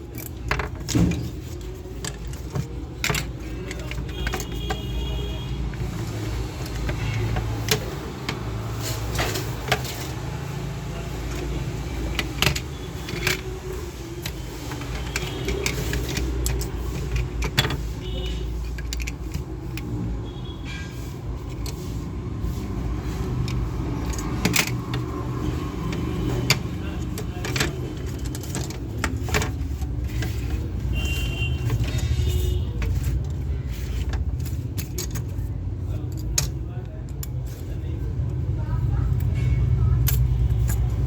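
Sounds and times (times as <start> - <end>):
small parts clicking and rattling: 0.0 - 41.0.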